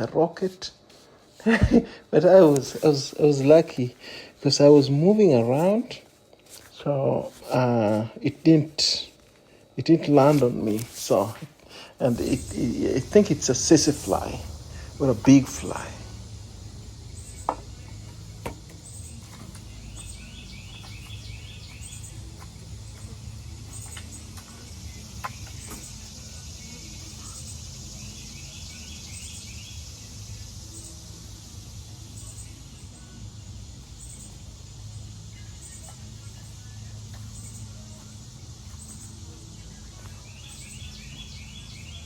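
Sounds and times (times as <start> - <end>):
high insect hiss: 0.0 - 42.0
low background hum: 0.0 - 42.0.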